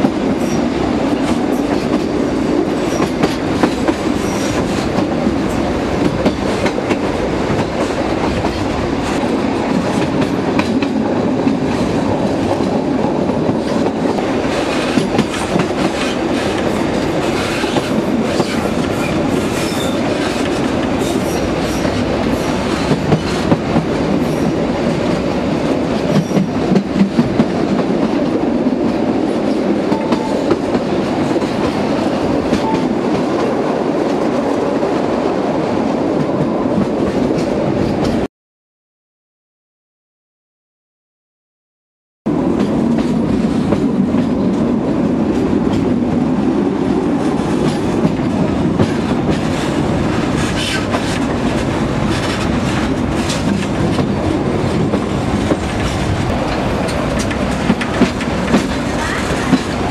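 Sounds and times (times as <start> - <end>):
train rolling rumble: 0.0 - 38.3, 42.3 - 59.9.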